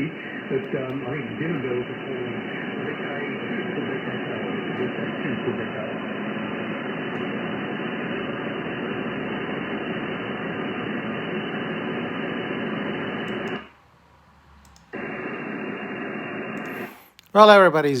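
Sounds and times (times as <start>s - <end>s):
radio static hiss: 0.0s - 13.7s, 14.9s - 18.0s.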